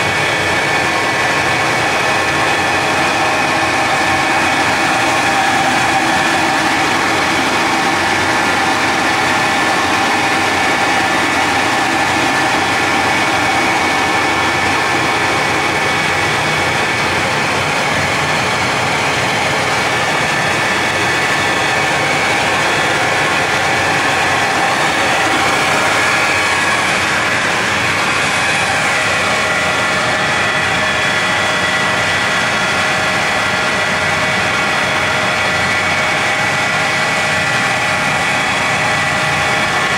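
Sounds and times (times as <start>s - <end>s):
machinery running: 0.0s - 39.9s.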